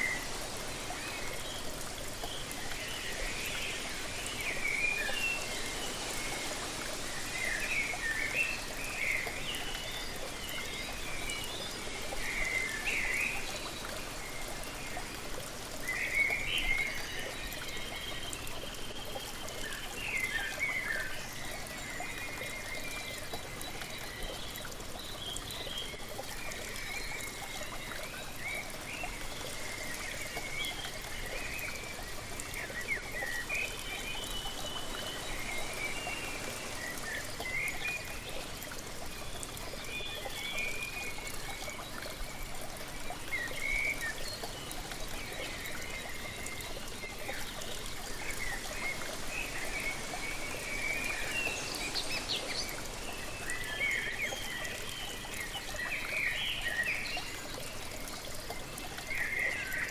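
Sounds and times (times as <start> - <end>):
songbirds chirping: 0.0 - 59.9
waterfall pouring and trickling: 0.0 - 59.9.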